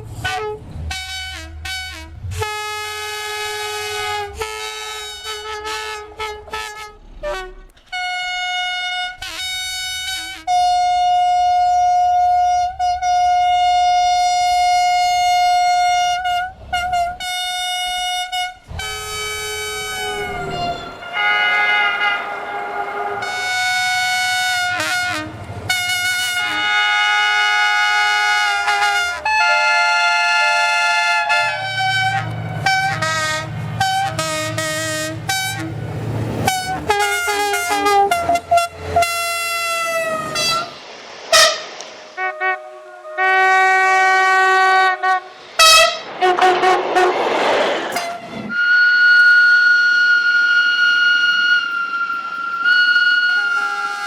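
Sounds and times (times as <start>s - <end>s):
low engine rumble: 0.0s - 29.4s, 30.0s - 54.0s
train air horn blasts: 0.0s - 35.8s, 36.4s - 47.2s, 47.9s - 54.0s
rush of passing train: 0.0s - 54.0s.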